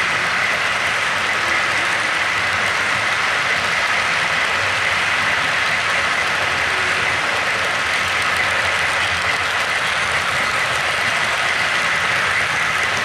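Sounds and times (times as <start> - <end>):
model train cars rolling: 0.0 - 13.0.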